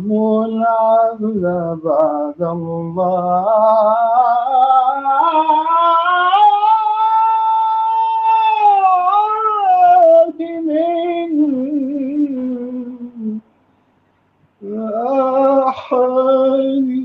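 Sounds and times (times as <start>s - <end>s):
man chanting: 0.0s - 13.4s, 14.6s - 17.0s.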